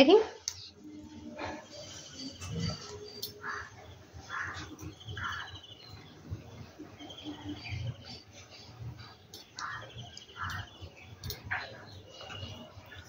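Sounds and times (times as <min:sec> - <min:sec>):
small birds trilling: 0:01.2 - 0:13.0.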